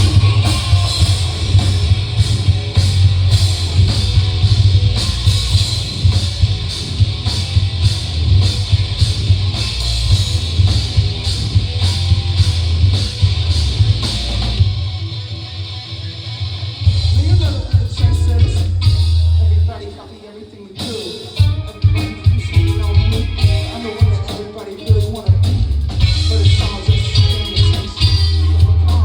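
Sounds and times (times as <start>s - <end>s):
drum kit beat: 0.0s - 14.8s, 16.9s - 20.0s, 20.8s - 29.0s
live rock band playing: 0.0s - 20.1s, 20.8s - 29.0s.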